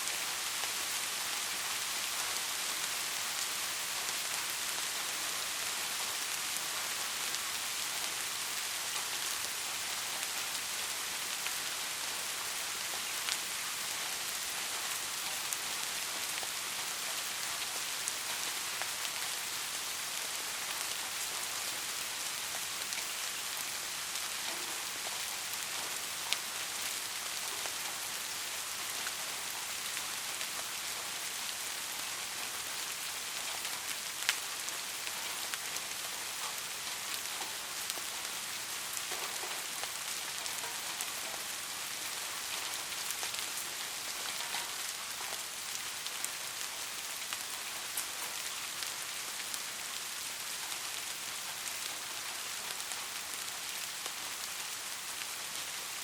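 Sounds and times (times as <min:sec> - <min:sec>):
close raindrops striking: 0:00.0 - 0:56.0
steady rain hiss: 0:00.0 - 0:56.0.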